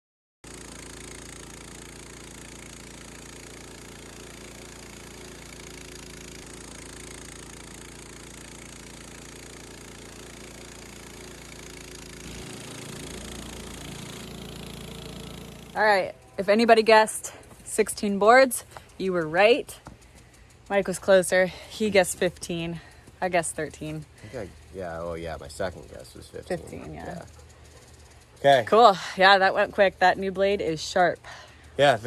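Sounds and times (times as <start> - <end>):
sawmill engine droning: 0.5 - 32.0.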